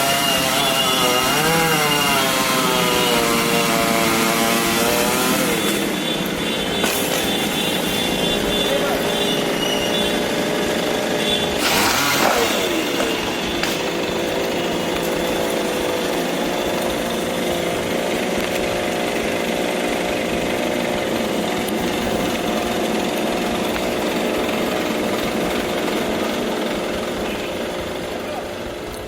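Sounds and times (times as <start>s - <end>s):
chainsaw running steadily: 0.0s - 29.0s.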